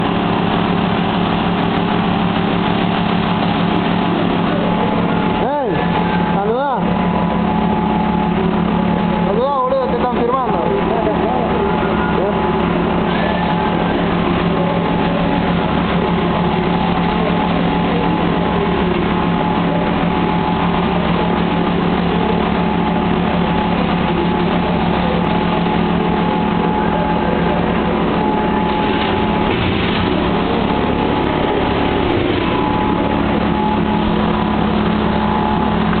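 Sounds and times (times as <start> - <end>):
machine motor humming: 0.0 - 36.0.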